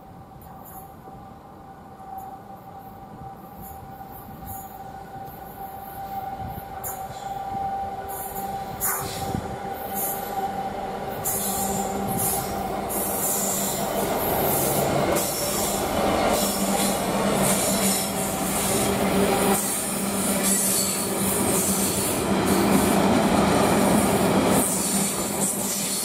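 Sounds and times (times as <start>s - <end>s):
diesel locomotive engine drone: 0.0s - 26.0s
wheel and rail noise: 0.4s - 26.0s.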